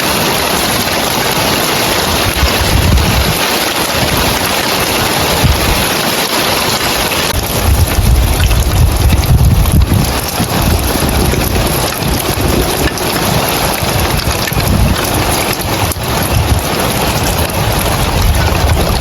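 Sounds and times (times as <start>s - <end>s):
rain on roof tiles: 0.0s - 19.0s
wind buffeting microphone: 0.1s - 19.0s.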